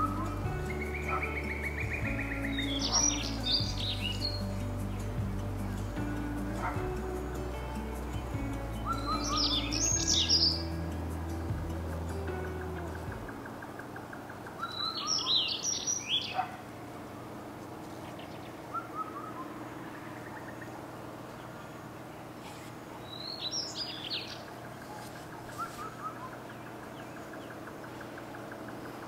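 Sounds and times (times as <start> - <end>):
bird chirping: 0.0 - 17.3, 17.9 - 29.0
faint outdoor background: 0.0 - 29.0.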